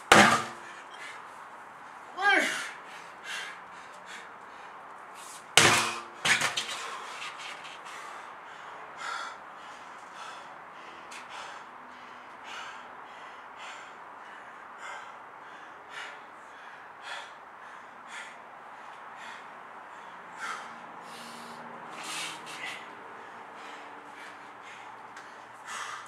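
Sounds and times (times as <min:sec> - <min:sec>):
heavy breathing: 0:02.1 - 0:26.0.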